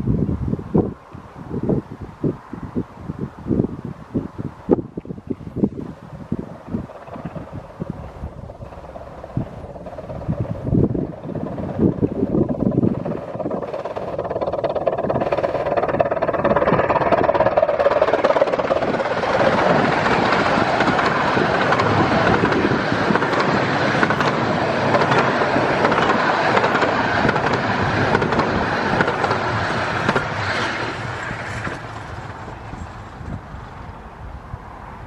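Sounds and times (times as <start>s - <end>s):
miniature steam train rushing past: 0.0s - 35.0s.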